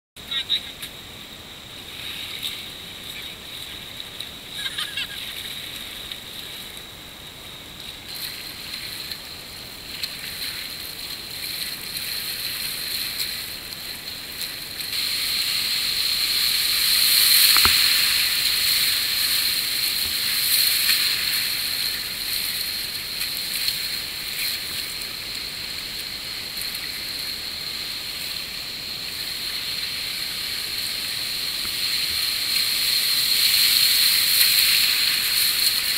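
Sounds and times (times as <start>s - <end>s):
whitewater rushing and splashing: 1.7s - 35.9s.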